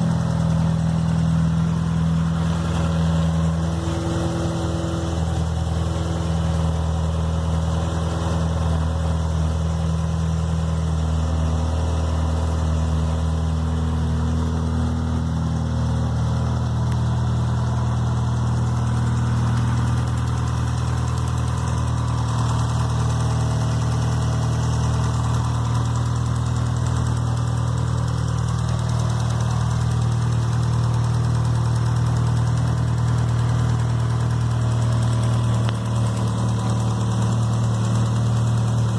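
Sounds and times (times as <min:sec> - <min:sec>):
abnormal engine noise: 0:00.0 - 0:38.9
car engine idling: 0:00.0 - 0:38.9.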